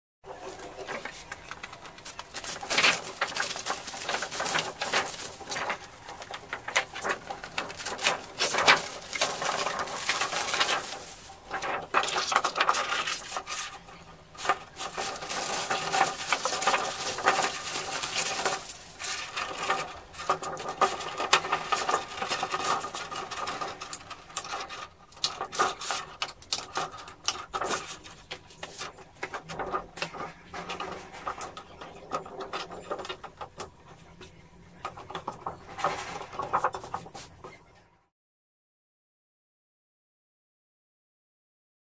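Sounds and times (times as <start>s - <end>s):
plastic sheet crinkling: 0.3s - 33.8s, 34.7s - 37.7s.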